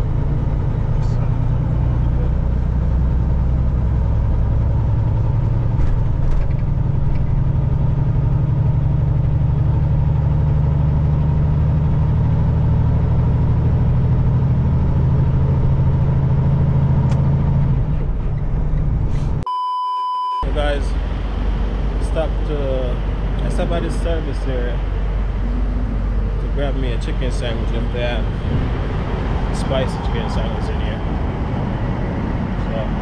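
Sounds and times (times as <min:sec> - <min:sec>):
diesel truck engine droning: 0:00.0 - 0:19.4, 0:20.1 - 0:33.0
road noise: 0:00.0 - 0:19.5, 0:20.4 - 0:33.0.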